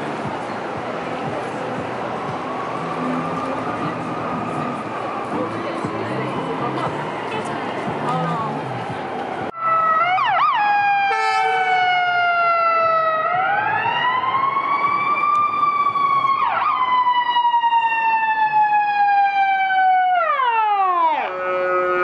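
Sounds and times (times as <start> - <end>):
ambulance siren wailing: 1.0 - 22.0.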